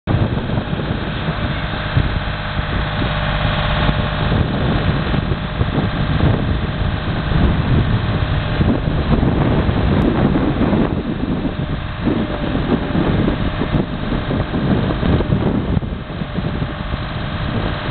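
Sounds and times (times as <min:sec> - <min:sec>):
engine running steadily: 0:00.0 - 0:17.9
wind rumbling on microphone: 0:00.0 - 0:17.9.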